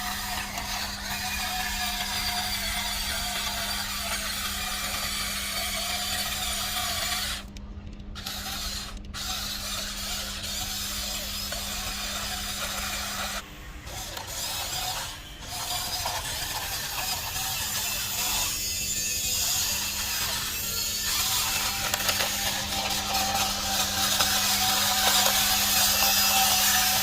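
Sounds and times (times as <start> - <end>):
small electric motors whirring: 0.0 - 27.0
steady hum: 0.0 - 27.0.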